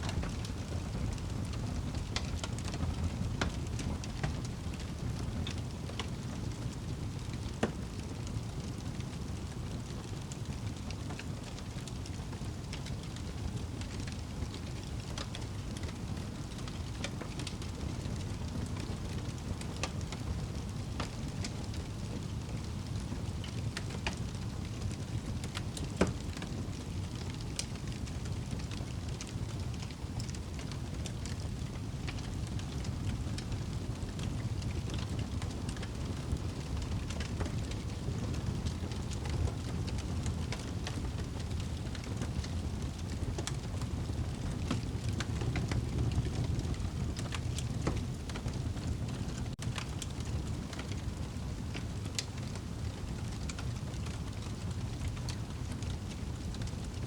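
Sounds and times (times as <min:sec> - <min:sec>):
fire rumbling: 0:00.0 - 0:57.0
wood fire crackling and popping: 0:00.0 - 0:57.0.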